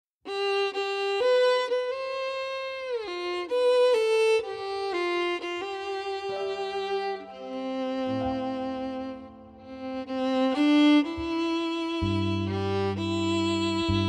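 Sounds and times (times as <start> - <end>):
solo violin melody: 0.2 - 14.0.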